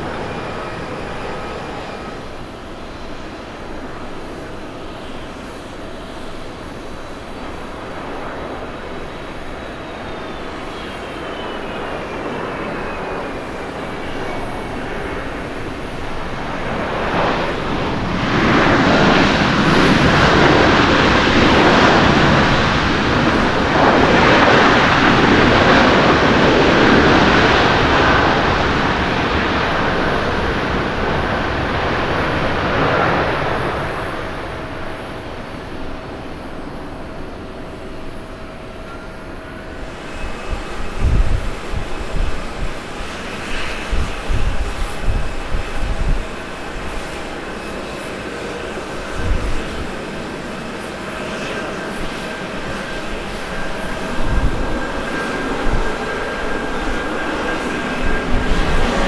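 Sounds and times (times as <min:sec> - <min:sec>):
jet engine whine: 0:00.0 - 0:59.0.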